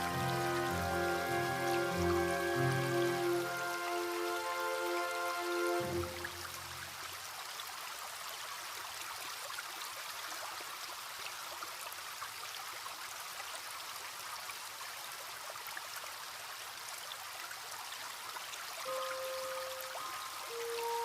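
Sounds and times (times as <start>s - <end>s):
stream trickling: 0.0s - 21.0s.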